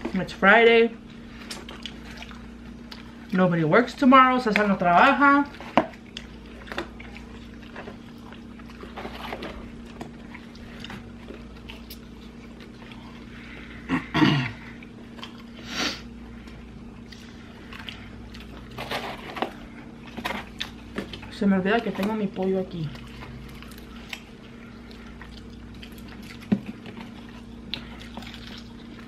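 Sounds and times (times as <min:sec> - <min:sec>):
people chewing food: 0:00.0 - 0:29.0
steady low hum: 0:00.0 - 0:29.0.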